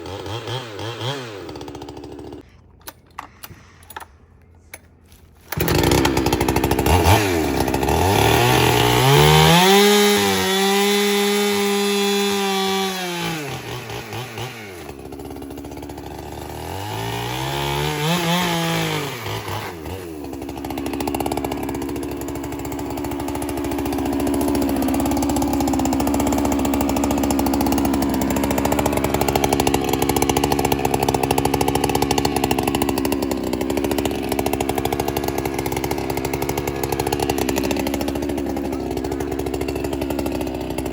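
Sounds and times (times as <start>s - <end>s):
chainsaw revving and idling: 0.0s - 2.5s, 5.4s - 40.9s.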